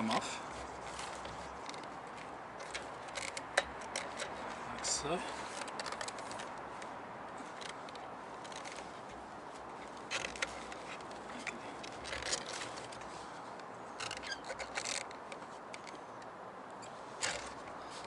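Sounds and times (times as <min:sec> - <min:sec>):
steady background hiss: 0:00.0 - 0:18.0
plastic parts clicking and rattling: 0:00.9 - 0:09.2, 0:09.8 - 0:17.8.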